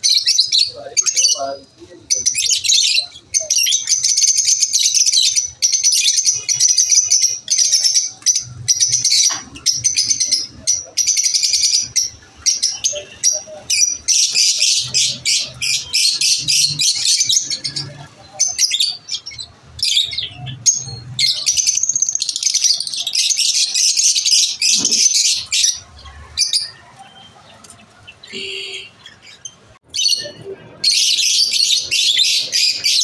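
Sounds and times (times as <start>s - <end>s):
lovebirds chirping: 0.0s - 33.0s.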